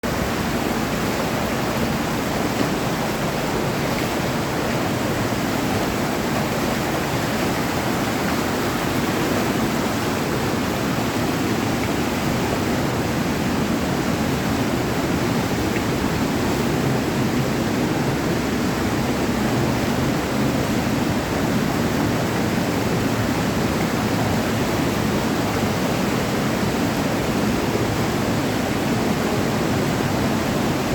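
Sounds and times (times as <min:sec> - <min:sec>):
stream rushing over rocks: 0:00.0 - 0:30.9.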